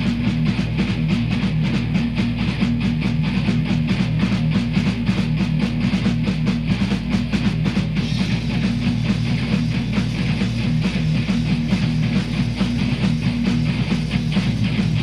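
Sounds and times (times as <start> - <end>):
guitar music with fast beat: 0.0 - 15.0.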